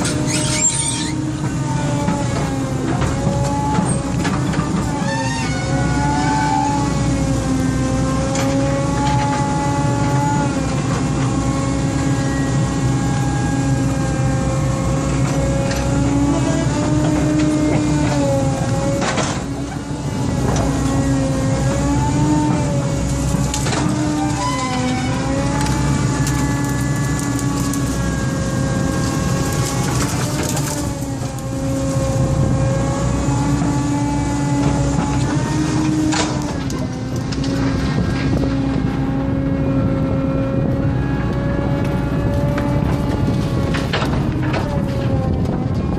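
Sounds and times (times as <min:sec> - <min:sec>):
engine whine: 0:00.0 - 0:45.9
excavator diesel engine running: 0:00.0 - 0:45.9.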